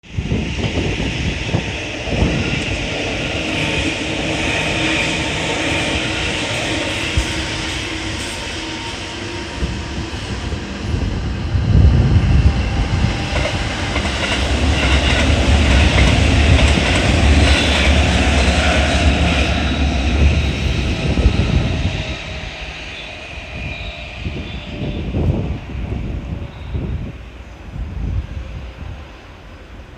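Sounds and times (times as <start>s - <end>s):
train wheels rumbling and clattering: 0.1s - 29.9s.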